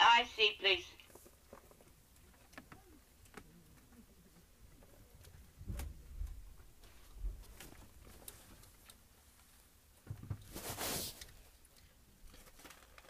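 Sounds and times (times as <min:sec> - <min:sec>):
faint clicks and creaks: 0:01.0 - 0:09.6, 0:11.2 - 0:13.0.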